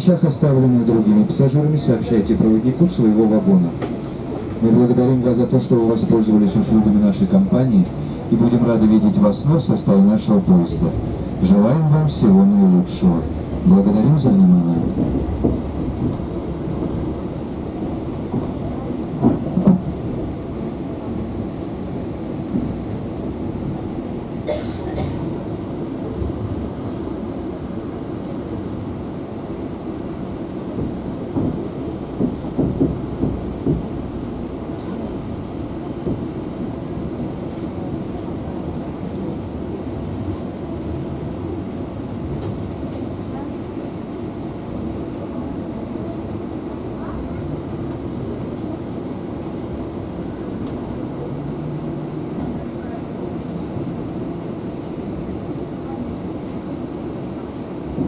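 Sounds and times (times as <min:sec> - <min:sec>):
train carriage rumbling on rails: 0:00.0 - 0:58.0.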